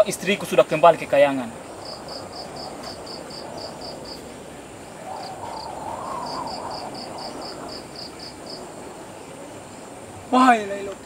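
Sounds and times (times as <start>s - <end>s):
soft background noise: 0.0s - 11.0s
insect chirping pulses: 1.5s - 10.4s.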